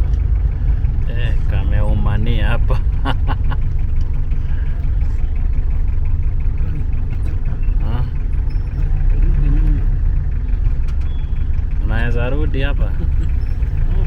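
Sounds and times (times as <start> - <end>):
vehicle rumbling in motion: 0.0 - 14.0.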